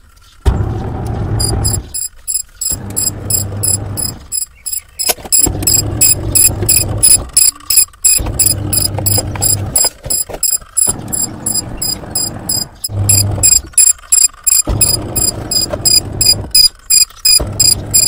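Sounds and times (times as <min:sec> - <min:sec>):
low hum and rattle: 0:00.0 - 0:18.0
washing machine buzzer beeping: 0:01.4 - 0:18.0.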